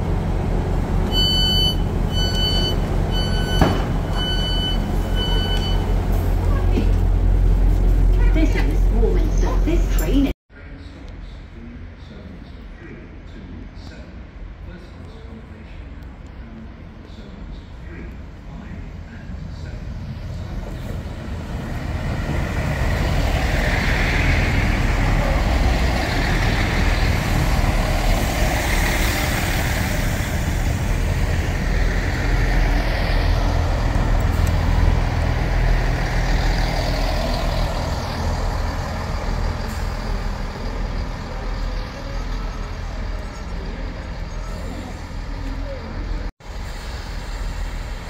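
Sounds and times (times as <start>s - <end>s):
diesel train engine rumble: 0.0s - 48.0s
rail noise: 0.0s - 48.0s.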